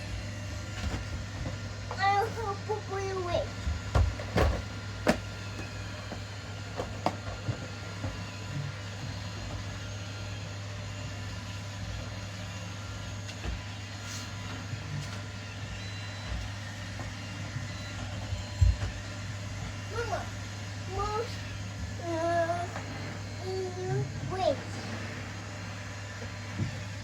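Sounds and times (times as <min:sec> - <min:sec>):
robot vacuums humming: 0:00.0 - 0:27.0.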